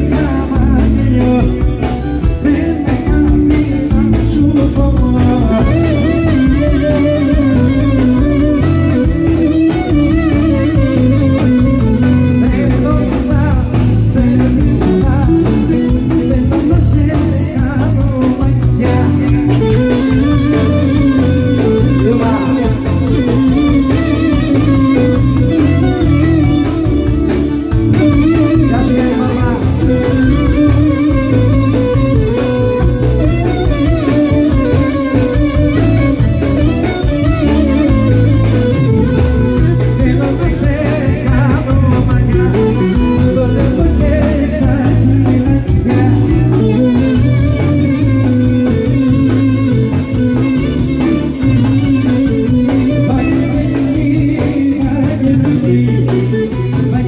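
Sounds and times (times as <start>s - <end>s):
live band music: 0.0s - 57.0s
person singing: 0.0s - 57.0s.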